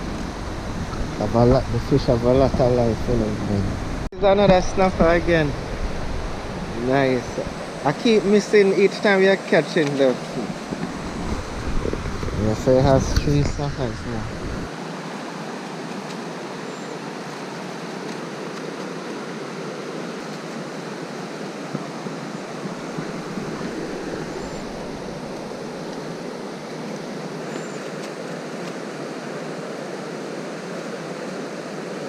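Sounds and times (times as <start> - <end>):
river current rushing: 0.0 - 32.0.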